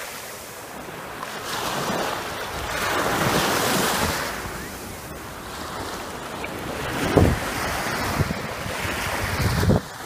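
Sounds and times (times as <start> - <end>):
small waves washing on beach: 0.0 - 10.0.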